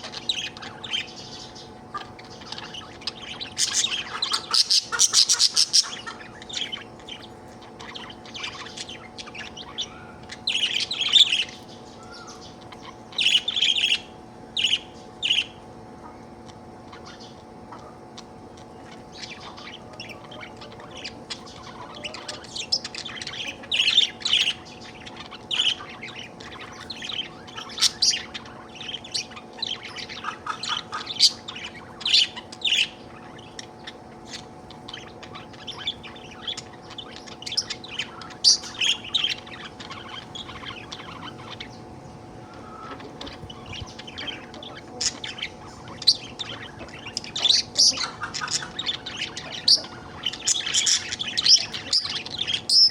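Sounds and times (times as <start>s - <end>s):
budgerigar chirping and chattering: 0.0s - 52.9s
faint steady hum: 0.0s - 52.9s.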